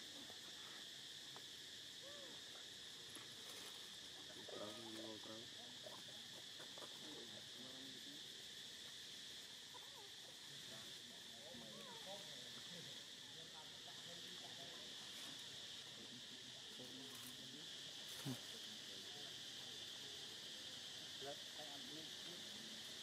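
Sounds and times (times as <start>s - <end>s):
high-pitched insect drone: 0.0s - 23.0s.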